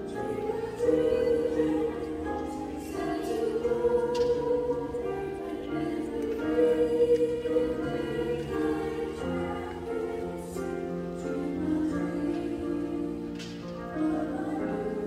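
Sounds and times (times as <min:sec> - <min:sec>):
piano accompaniment: 0:00.0 - 0:15.0
youth choir singing: 0:00.0 - 0:15.0.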